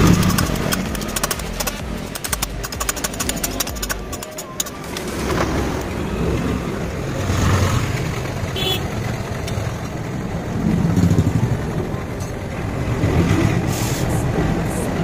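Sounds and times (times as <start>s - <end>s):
vehicles passing rumble: 0.0s - 15.0s.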